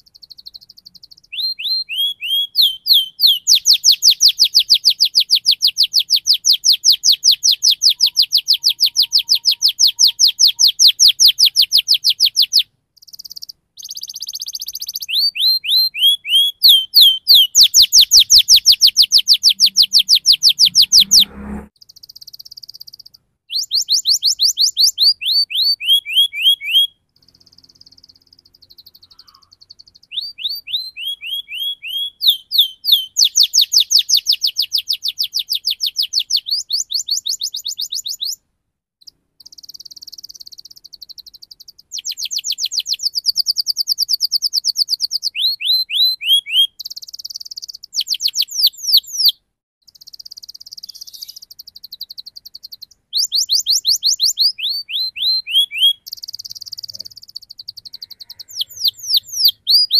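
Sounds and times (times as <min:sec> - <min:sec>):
canary singing trills: 0:00.0 - 0:38.4, 0:39.0 - 0:59.9.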